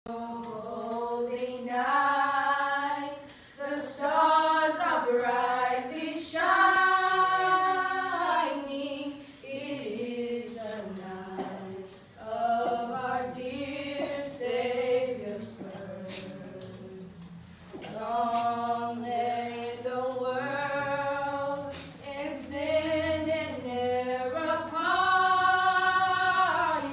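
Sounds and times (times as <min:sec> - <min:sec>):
girls singing a cappella: 0:00.1 - 0:26.9.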